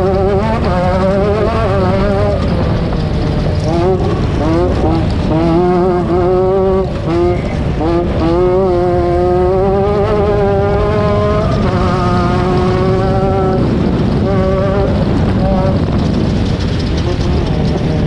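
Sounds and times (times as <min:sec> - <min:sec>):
race vehicle engine revving: 0:00.0 - 0:18.0.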